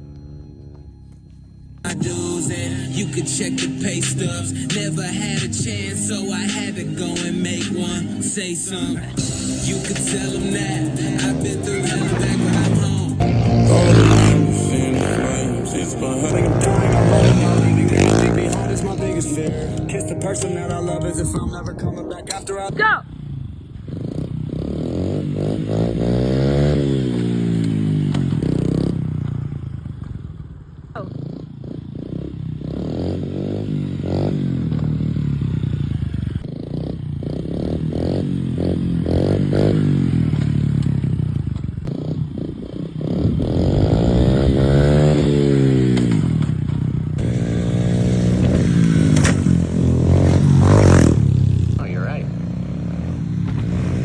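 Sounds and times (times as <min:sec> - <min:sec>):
off-road vehicle engine revving: 0:03.0 - 0:20.6, 0:22.6 - 0:30.2, 0:30.8 - 0:54.0.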